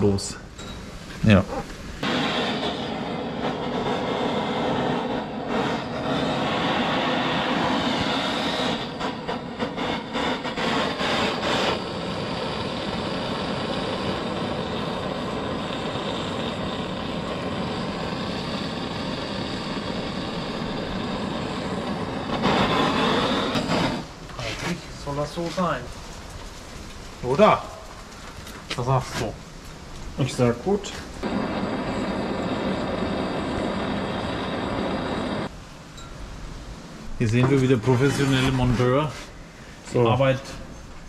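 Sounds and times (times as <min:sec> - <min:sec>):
gas torch roaring: 0:01.0 - 0:35.8, 0:37.1 - 0:40.6.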